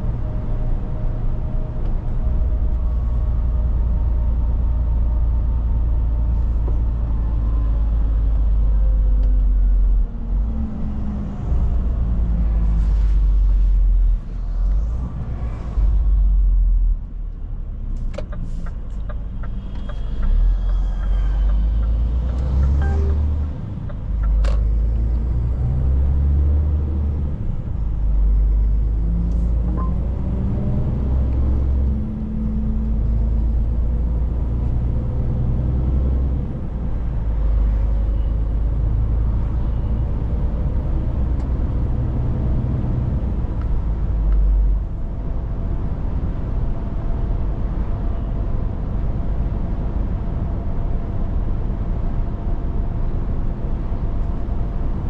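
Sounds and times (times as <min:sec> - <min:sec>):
truck diesel engine under load: 0:00.0 - 0:55.0.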